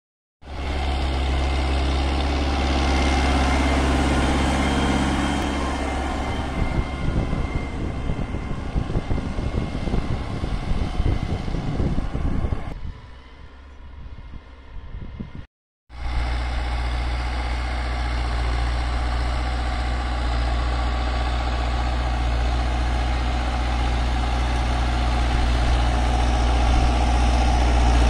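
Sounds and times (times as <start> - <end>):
diesel tractor engine under load: 0.4 - 28.0.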